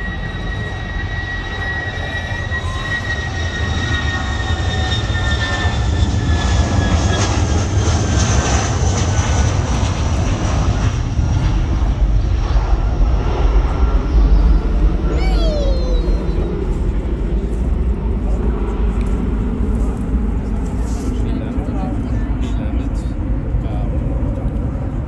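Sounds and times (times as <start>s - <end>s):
jet engine high whine: 0.0s - 25.0s
jet engines low rumble: 0.0s - 25.0s.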